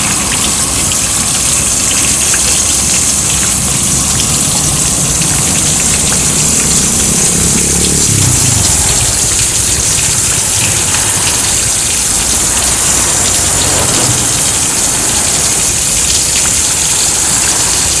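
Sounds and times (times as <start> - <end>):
heavy rain hiss: 0.0 - 18.0
low traffic rumble: 0.0 - 18.0
vehicle passing by: 0.0 - 18.0.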